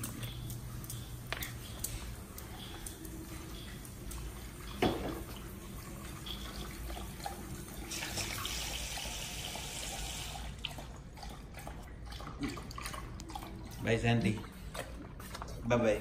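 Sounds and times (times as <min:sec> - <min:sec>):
dog lapping water: 0:00.0 - 0:16.0.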